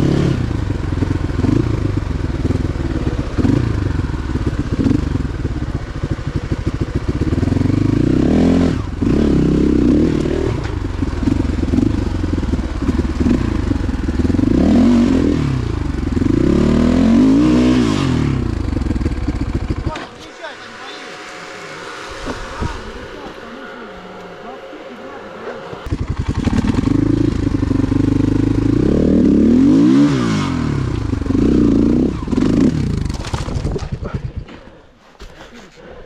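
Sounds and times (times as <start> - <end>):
motorcycle engine revving: 0.0 - 35.3.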